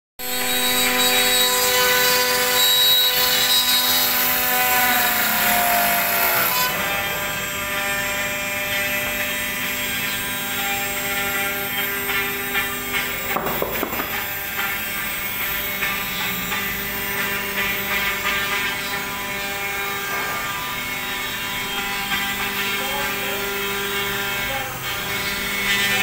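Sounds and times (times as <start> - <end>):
router spindle high whine: 0.2 - 26.0.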